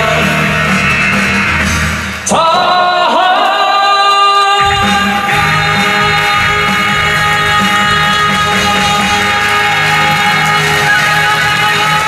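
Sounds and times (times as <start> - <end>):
live pop-rock band playing: 0.0 - 2.6, 4.6 - 12.0.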